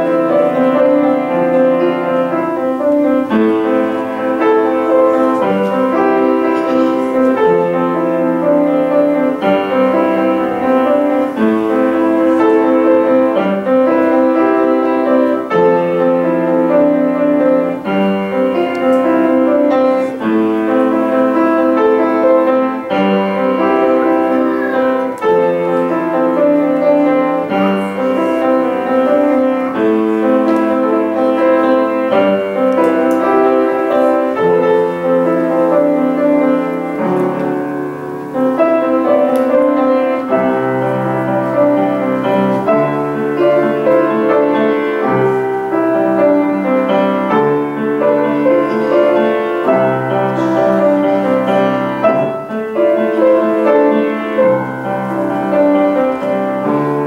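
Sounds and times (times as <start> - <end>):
piano playing slow chords: 0.0 - 57.0.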